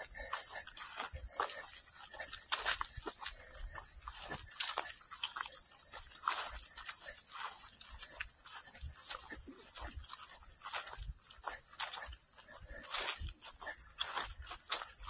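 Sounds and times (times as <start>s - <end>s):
footsteps on grass: 0.0s - 15.0s
insect chorus: 0.0s - 15.0s.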